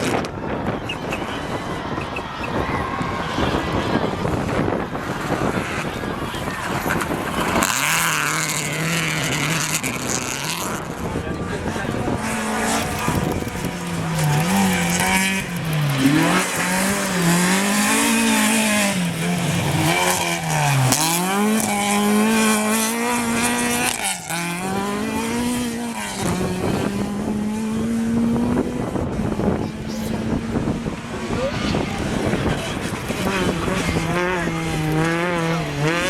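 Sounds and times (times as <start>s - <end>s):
rally car engine at hard throttle: 0.0s - 36.0s.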